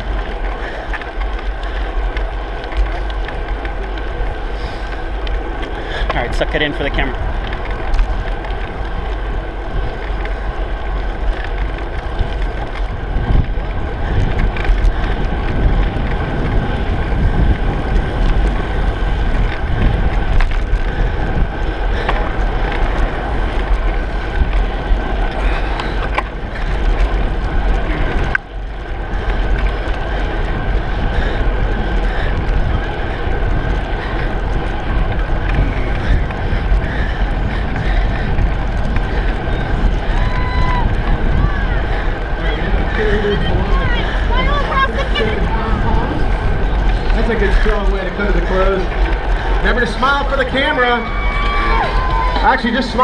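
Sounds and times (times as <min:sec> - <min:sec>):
rolling road noise: 0:00.0 - 0:53.0
wind buffeting microphone: 0:00.0 - 0:53.0.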